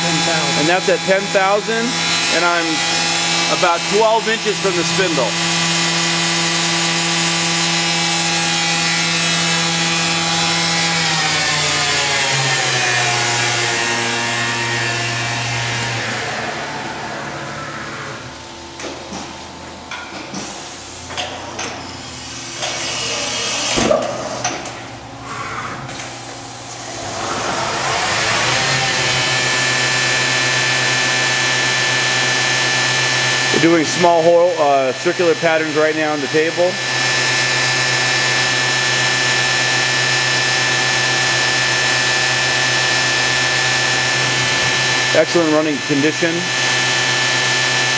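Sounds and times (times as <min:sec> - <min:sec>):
machine spindle whining: 0:00.0 - 0:18.4, 0:22.0 - 0:24.7, 0:26.6 - 0:47.9.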